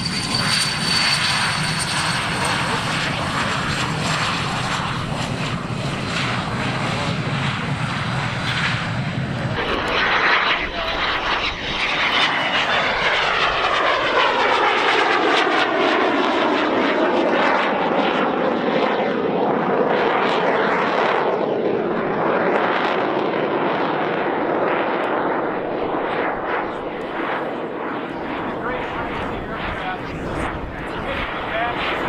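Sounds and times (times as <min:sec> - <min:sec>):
jet flyby overhead: 0:00.0 - 0:32.0.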